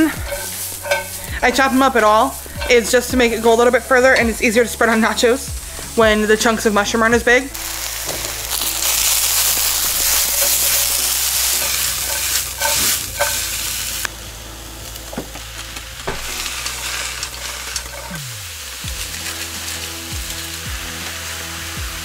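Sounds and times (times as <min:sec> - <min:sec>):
onions sizzling in a frying pan: 0:00.0 - 0:22.0.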